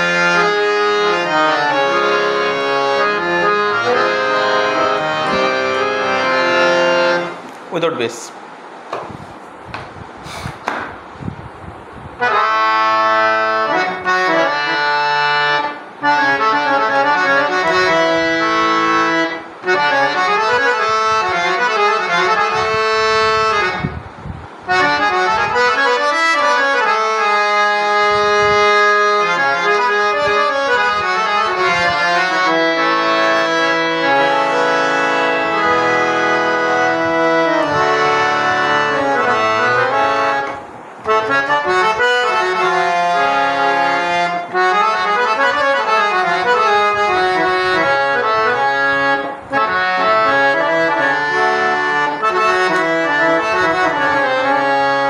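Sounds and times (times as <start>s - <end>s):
harmonium chords and melody: 0.0s - 7.9s, 12.2s - 55.0s.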